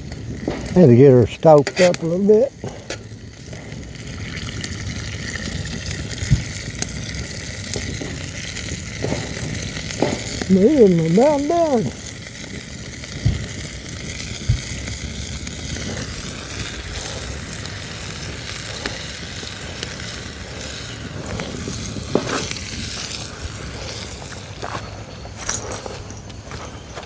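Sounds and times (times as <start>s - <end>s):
patties sizzling in a skillet: 0.0s - 24.9s.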